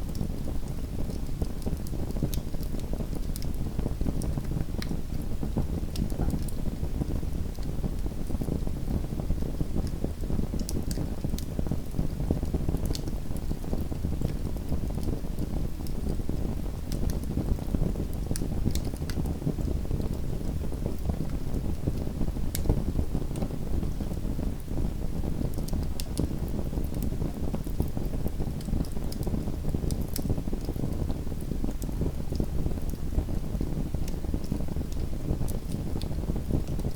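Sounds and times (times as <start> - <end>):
fire flames rumbling: 0.0 - 36.9
wood fire crackling and popping: 0.0 - 36.9.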